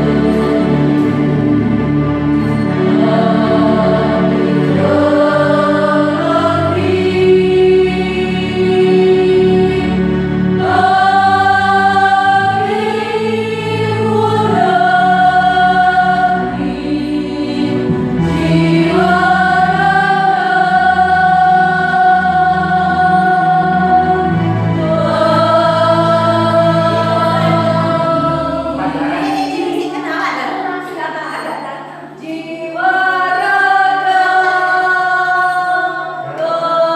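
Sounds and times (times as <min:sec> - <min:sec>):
choir singing sustained chords: 0:00.0 - 0:36.9.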